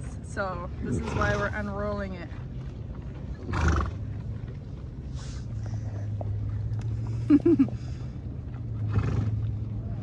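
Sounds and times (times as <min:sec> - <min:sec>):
horses chewing hay: 0:00.8 - 0:10.0.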